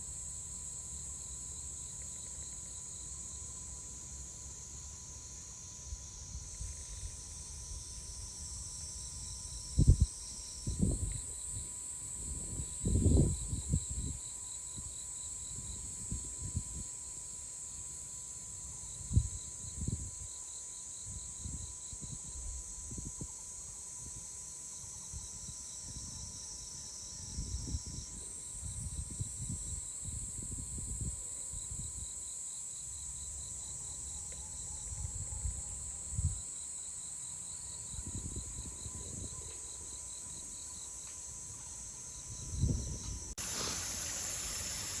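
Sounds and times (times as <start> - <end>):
insect chorus trilling: 0.0 - 45.0.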